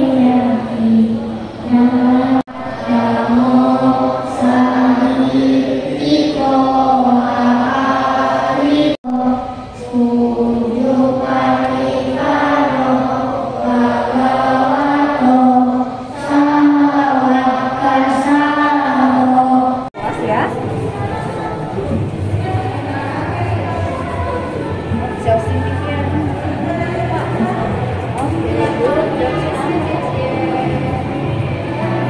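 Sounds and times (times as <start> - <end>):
group chanting in unison: 0.0 - 20.4, 26.2 - 32.0.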